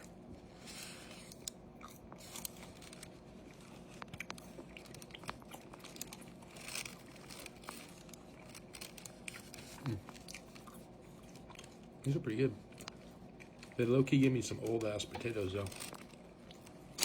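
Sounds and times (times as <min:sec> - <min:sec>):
close chewing: 0:00.0 - 0:17.0.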